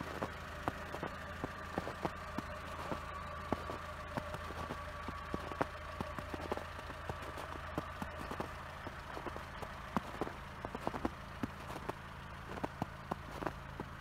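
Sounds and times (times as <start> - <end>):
car engine running at low revs: 0.0 - 14.0
tyres crunching on snow: 0.0 - 14.0.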